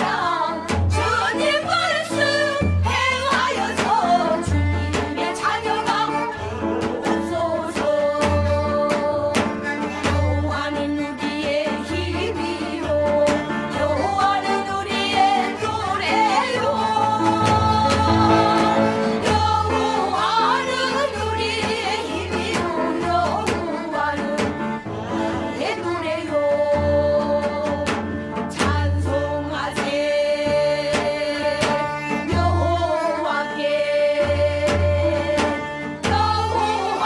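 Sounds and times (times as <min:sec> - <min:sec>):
strings: 0:00.0 - 0:37.0.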